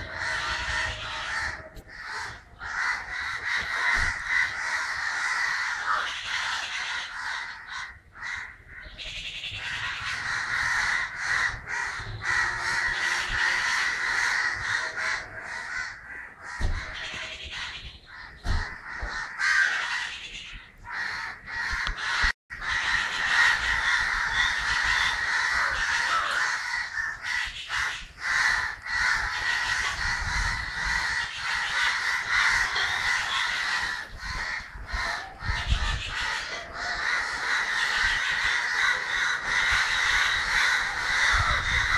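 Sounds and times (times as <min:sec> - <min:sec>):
crows cawing: 0:00.0 - 0:41.9.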